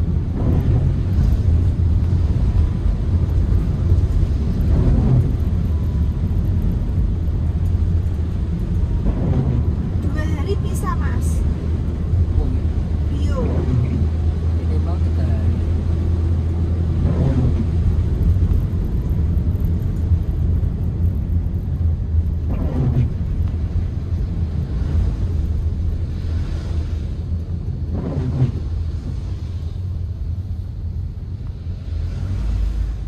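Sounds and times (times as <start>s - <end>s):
car interior road and engine rumble: 0.0s - 33.0s.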